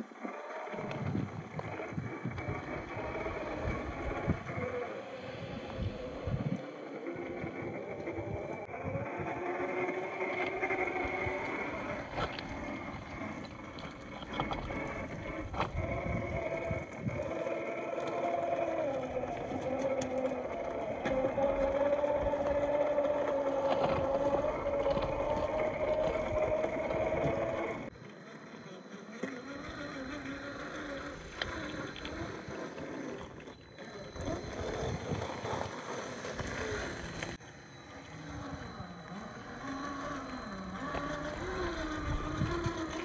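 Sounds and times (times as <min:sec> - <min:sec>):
electric motor and gear whine: 0:00.0 - 0:43.0.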